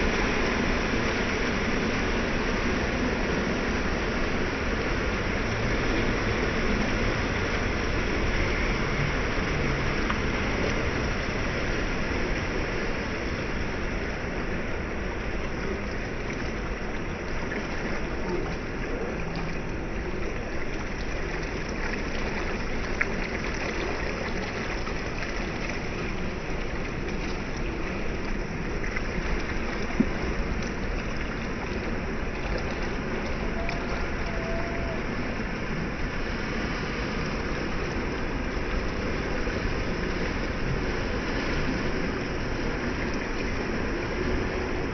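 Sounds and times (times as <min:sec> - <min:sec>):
ocean surf over rocks: 0:00.0 - 0:44.9.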